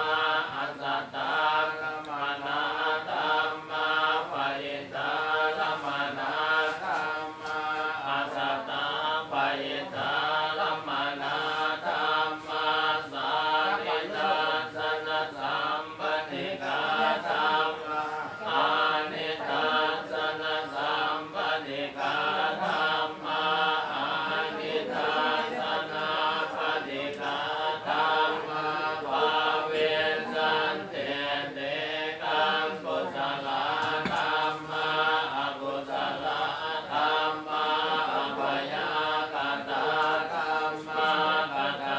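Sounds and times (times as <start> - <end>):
group chanting: 0.0 - 41.9.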